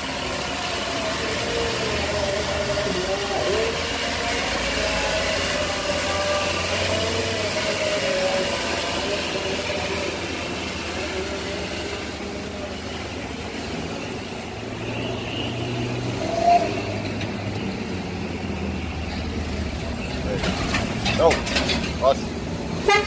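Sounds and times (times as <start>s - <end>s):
road noise: 0.0s - 23.0s
van engine hum: 0.0s - 23.0s.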